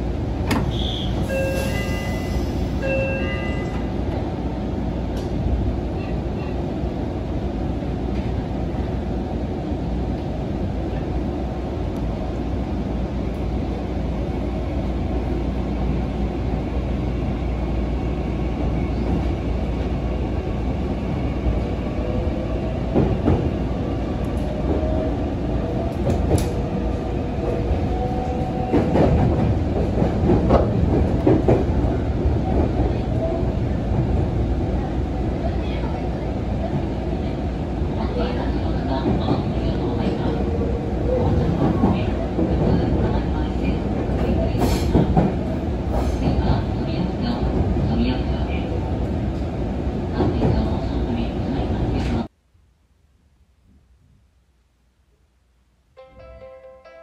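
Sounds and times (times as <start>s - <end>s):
train wheels rumbling on rail: 0.0s - 52.3s.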